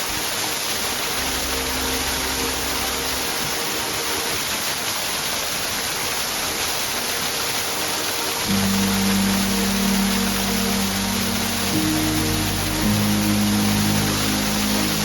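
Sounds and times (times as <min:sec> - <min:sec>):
rushing waterfall: 0:00.0 - 0:15.0.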